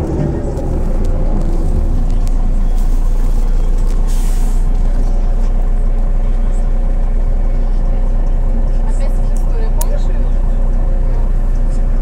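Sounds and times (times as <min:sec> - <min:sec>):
bus engine and road drone: 0:00.0 - 0:12.0.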